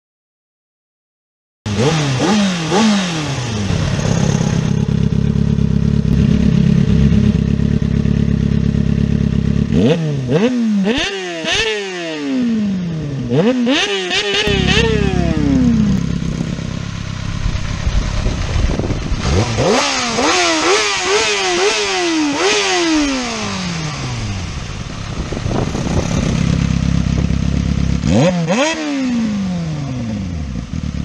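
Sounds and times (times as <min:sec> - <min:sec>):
motorcycle engine idling and revving: 0:01.7 - 0:31.0.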